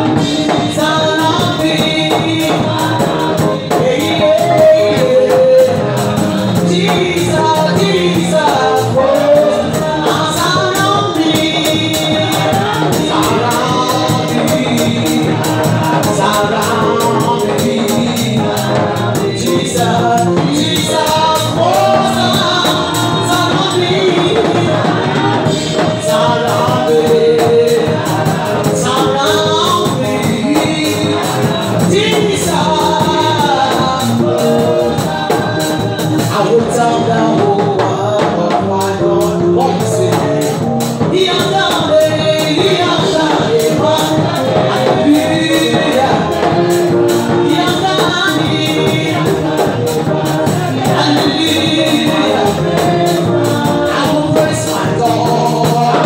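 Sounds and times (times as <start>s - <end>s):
band accompaniment with percussion: 0.0s - 56.0s
women singing gospel praise: 0.0s - 56.0s.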